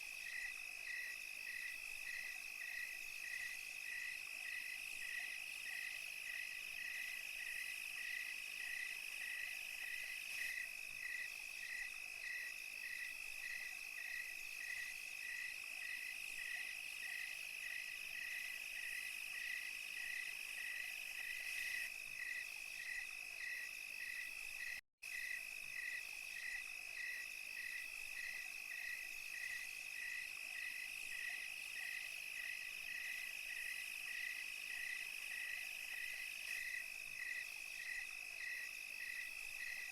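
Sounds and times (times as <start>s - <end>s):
high-pitched insect trill: 0.0s - 39.9s
hissing insect chorus: 0.0s - 39.9s
insect chirping evenly: 0.0s - 39.9s.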